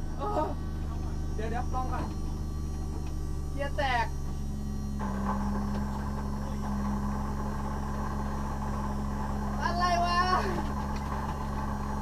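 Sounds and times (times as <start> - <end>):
car engine idling: 0.0 - 12.0
higher steady drone: 0.0 - 12.0.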